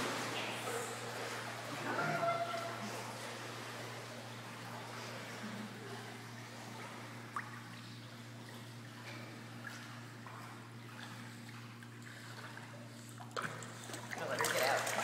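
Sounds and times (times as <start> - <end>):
pool water lapping and splashing: 0.0 - 15.0
steady low hum: 0.0 - 15.0.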